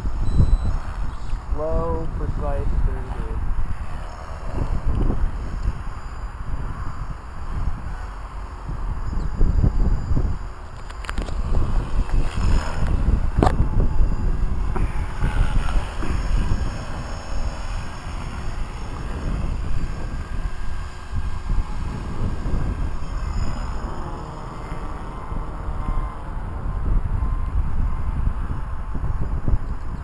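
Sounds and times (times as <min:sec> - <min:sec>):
rc helicopter motor whine: 0:00.0 - 0:30.0
wind buffeting microphone: 0:00.0 - 0:30.0.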